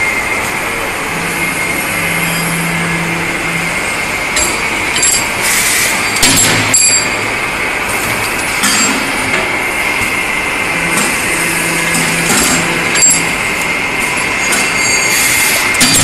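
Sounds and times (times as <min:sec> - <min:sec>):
machine high whine: 0:00.0 - 0:16.0.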